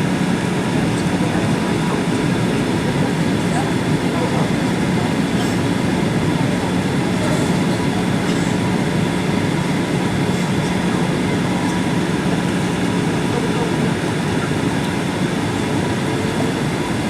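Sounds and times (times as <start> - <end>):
airliner cabin engine rush: 0.0 - 17.0.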